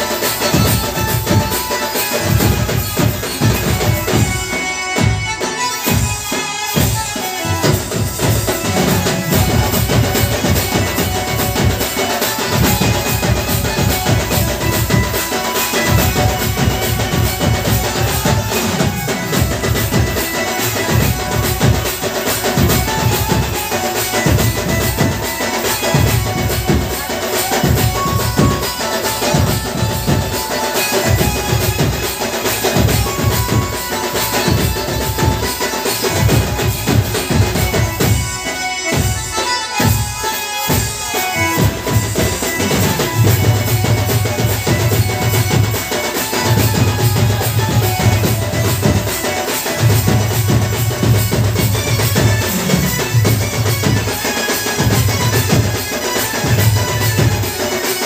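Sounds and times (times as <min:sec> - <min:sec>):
band playing dance music: 0:00.0 - 0:58.0
drums beating fast rhythm: 0:00.0 - 0:58.0.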